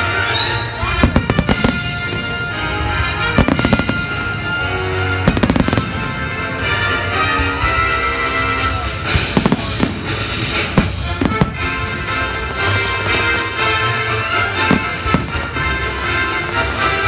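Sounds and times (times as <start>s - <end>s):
fireworks bangs and crackle: 0.0s - 17.0s
music playing: 0.0s - 17.0s.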